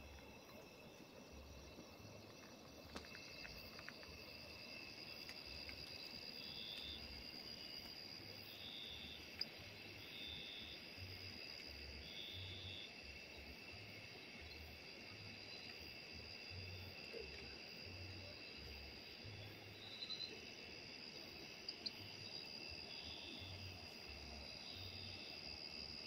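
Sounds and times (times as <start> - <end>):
night insects chirring: 0.0 - 26.0.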